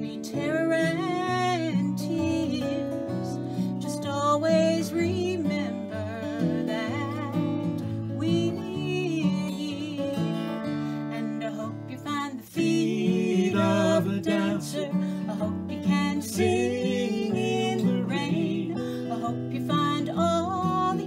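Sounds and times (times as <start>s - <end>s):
acoustic guitar: 0.0s - 21.0s
woman singing slow song: 0.0s - 21.0s.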